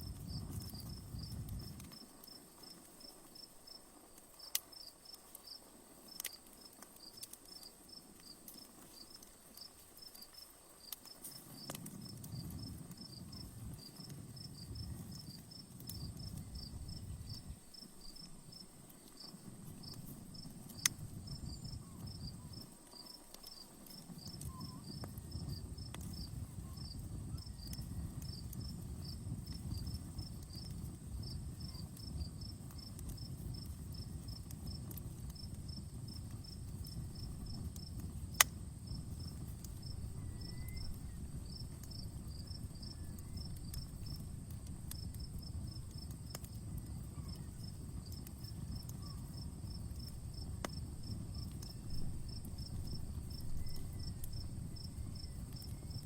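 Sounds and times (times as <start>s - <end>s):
campfire crackling: 0.0s - 56.0s
crickets chirping: 0.0s - 56.0s
fire popping loudly: 0.0s - 56.0s.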